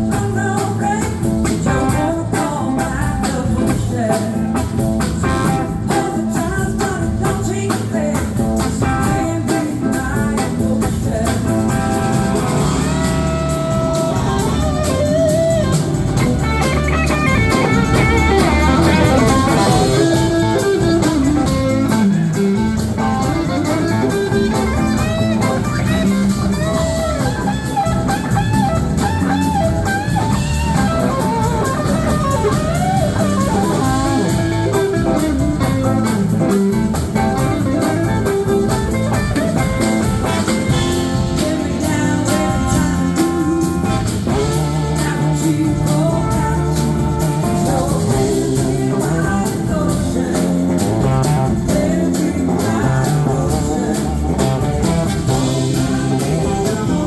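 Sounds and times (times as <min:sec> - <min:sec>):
electric guitar lead: 0:00.0 - 0:57.0
live blues band: 0:00.0 - 0:57.0.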